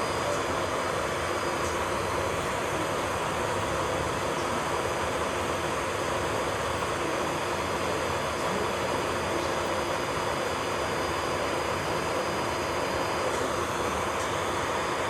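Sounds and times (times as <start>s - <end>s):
dust collector fan: 0.0s - 15.0s.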